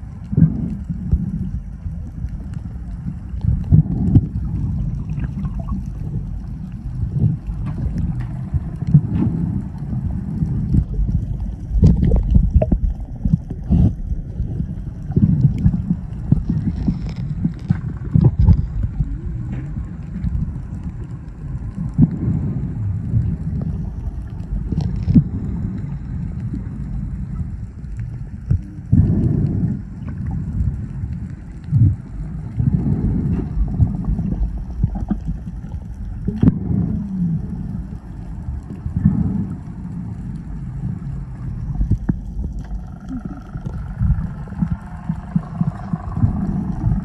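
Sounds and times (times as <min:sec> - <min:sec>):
underwater water wash: 0:00.0 - 0:47.0.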